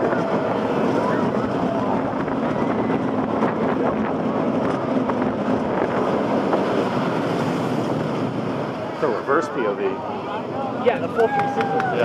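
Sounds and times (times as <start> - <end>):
roller coaster rumbling on track: 0.0 - 12.0
wind rushing over microphone: 0.0 - 12.0.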